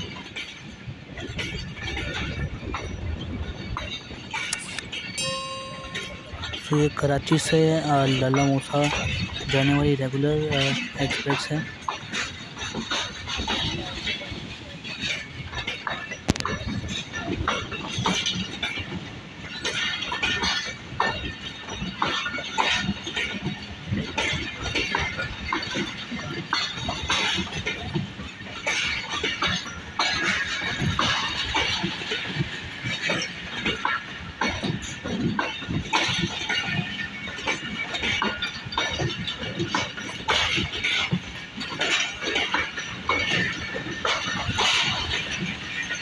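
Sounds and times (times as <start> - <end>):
metallic clanks of train wheels: 0.0 - 46.0
passenger train passing: 0.0 - 46.0.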